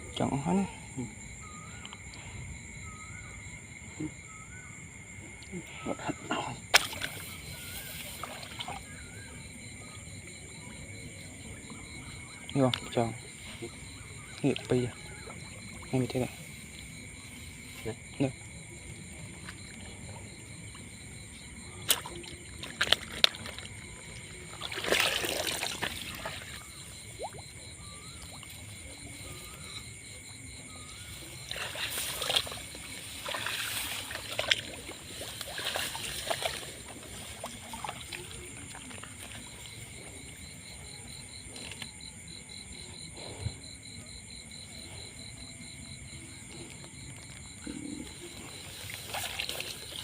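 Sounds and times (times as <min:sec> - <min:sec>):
water splashing and sloshing: 0:05.2 - 0:42.8, 0:45.8 - 0:50.0.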